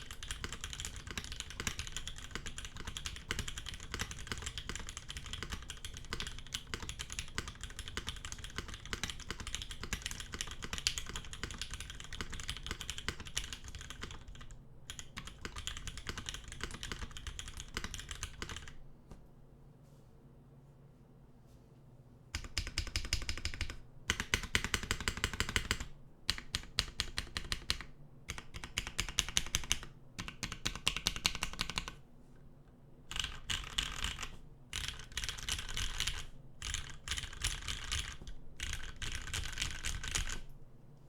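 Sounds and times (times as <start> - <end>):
mechanical keyboard typing: 0.0 - 18.8, 22.4 - 32.0, 33.1 - 40.5.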